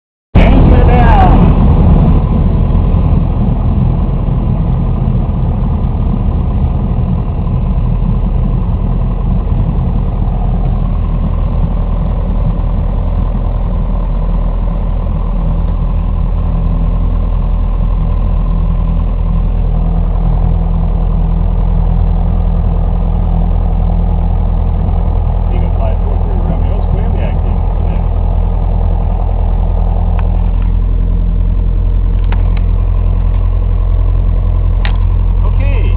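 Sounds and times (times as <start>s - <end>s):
airplane engine drone: 0.4s - 35.9s.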